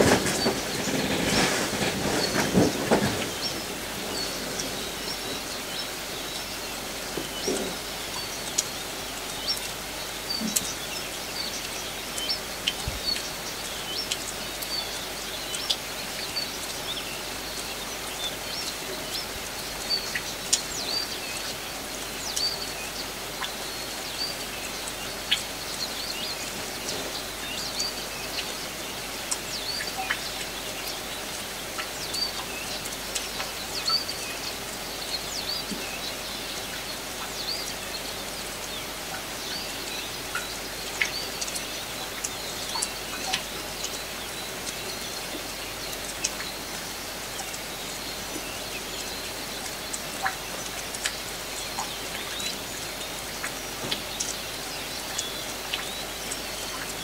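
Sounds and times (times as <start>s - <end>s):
light rain hissing: 0.0s - 57.0s
small birds chirping: 0.0s - 57.0s
sharp drips: 3.2s - 57.0s.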